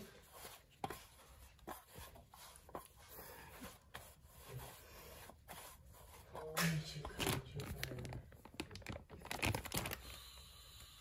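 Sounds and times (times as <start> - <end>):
hands rubbing dough: 0.0 - 9.8.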